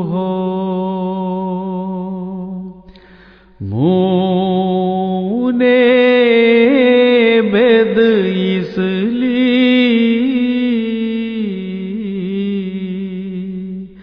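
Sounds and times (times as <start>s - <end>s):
person chanting a hymn: 0.0s - 2.8s, 3.6s - 14.0s.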